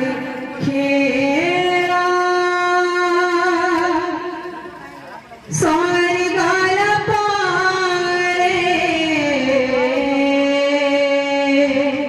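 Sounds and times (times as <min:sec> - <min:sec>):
woman singing a long note: 0:00.0 - 0:04.4, 0:05.5 - 0:12.0.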